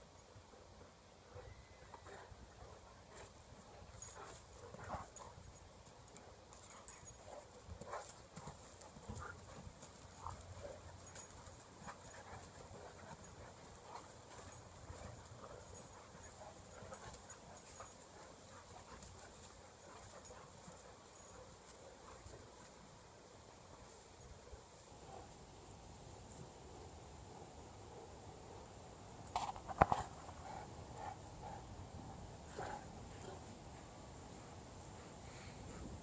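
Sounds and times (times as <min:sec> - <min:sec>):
dogs huffing and scuffling: 0:01.4 - 0:24.0, 0:29.2 - 0:36.0.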